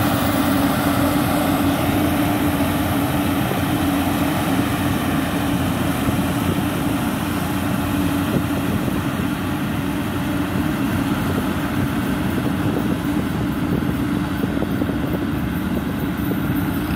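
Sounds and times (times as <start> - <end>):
combine harvester droning: 0.0 - 16.9.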